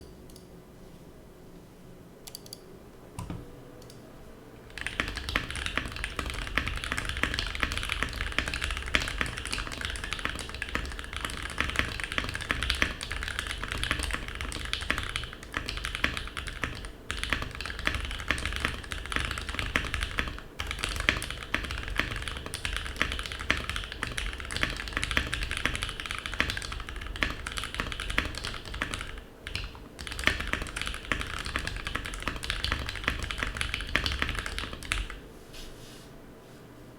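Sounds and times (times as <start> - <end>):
typing on mechanical keyboard: 4.7 - 35.2.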